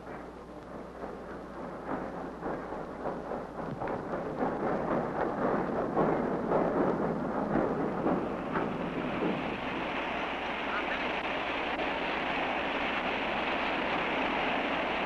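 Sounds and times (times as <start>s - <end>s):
rumbling crackling clatter: 0.0s - 15.0s.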